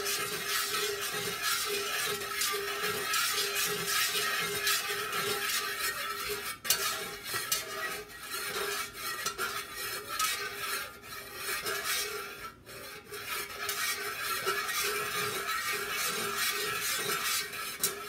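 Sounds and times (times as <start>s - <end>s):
metal skewers scraping metal pitcher: 0.0s - 18.0s.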